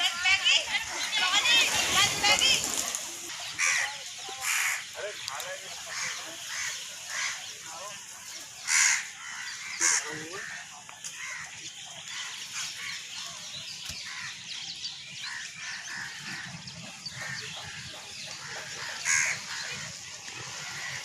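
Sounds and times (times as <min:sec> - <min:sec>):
birds chattering: 0:00.0 - 0:21.0.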